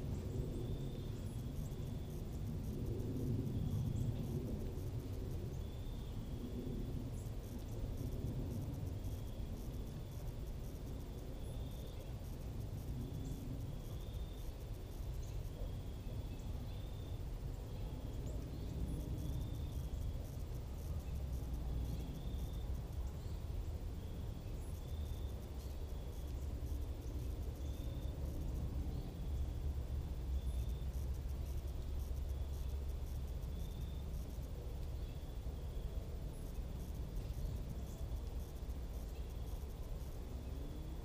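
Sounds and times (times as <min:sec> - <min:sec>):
insects chirping: 0:00.0 - 0:41.0
steady low rumble: 0:00.0 - 0:41.0.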